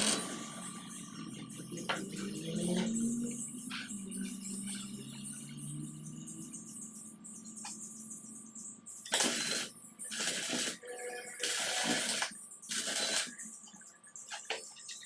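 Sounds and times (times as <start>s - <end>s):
harsh hissing metalworking noise: 0.0s - 15.0s.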